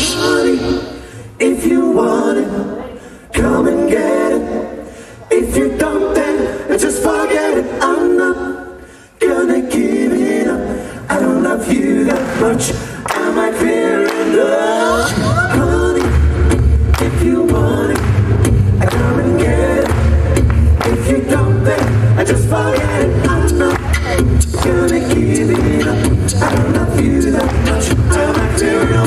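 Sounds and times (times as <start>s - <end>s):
male a cappella group singing: 0.0s - 29.0s.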